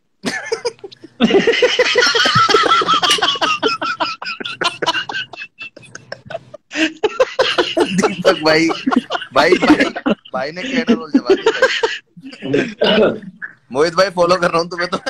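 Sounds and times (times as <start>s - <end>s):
men laughing: 0.2s - 15.0s.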